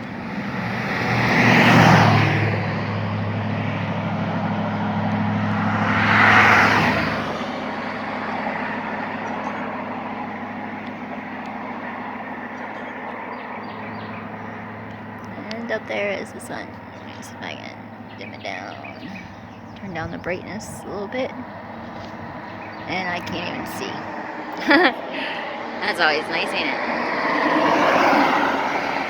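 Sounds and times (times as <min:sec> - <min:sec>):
low engine hum: 0:00.0 - 0:29.0
vehicles passing by: 0:00.0 - 0:29.0.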